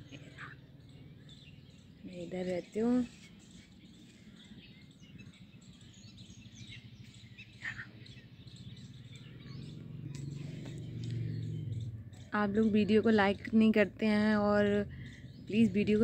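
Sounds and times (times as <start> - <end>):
faint birds chirping: 0.0 - 16.0
outdoor background noise: 0.0 - 16.0.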